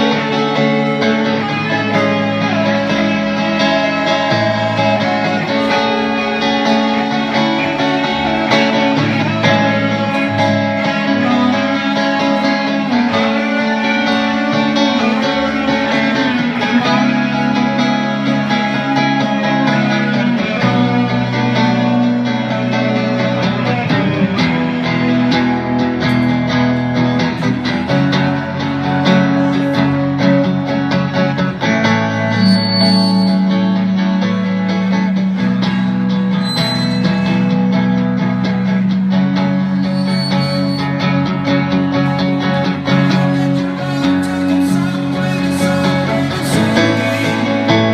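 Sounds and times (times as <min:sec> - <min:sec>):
guitar music ringing chords: 0:00.0 - 0:47.9.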